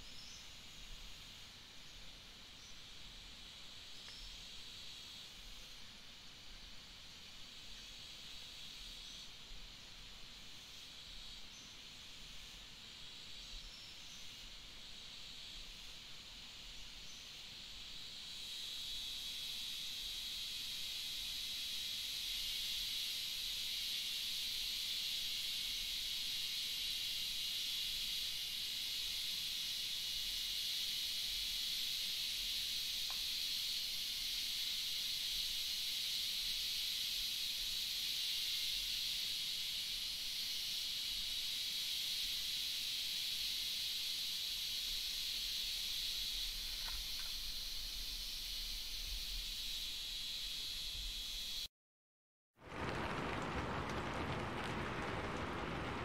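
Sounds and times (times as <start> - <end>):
steady rain hiss: 0.0 - 51.7, 52.6 - 56.0.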